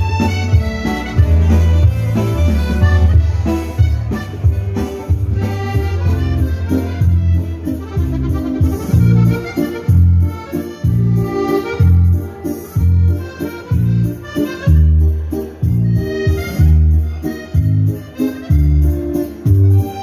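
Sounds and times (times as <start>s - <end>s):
piano accordion dance tune: 0.0s - 20.0s
steady bass beat: 0.0s - 20.0s.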